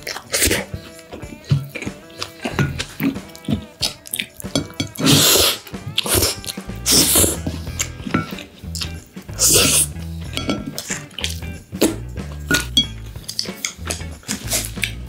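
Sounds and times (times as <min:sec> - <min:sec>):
slurping and chewing: 0:00.0 - 0:15.0.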